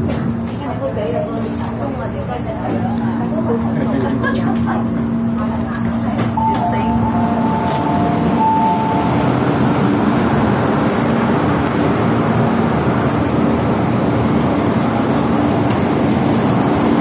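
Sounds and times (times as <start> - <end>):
electric train humming at platform: 0.0 - 17.0.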